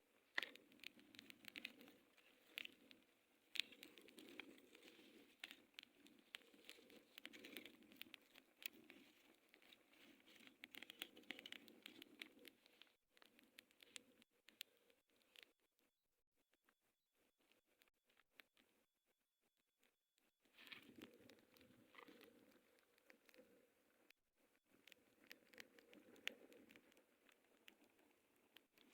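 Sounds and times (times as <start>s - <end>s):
wood fire crackling and popping: 0.0s - 15.5s, 20.5s - 28.9s.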